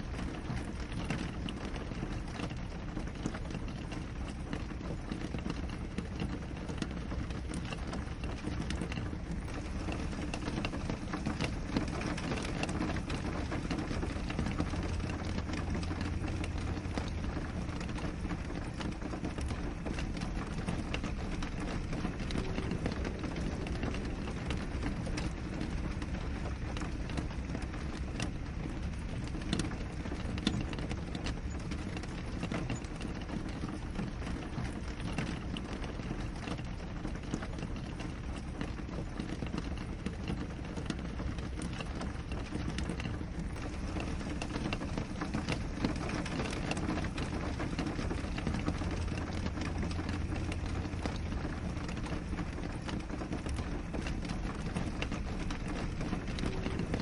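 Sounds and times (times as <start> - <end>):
rain on window glass: 0.0 - 57.0.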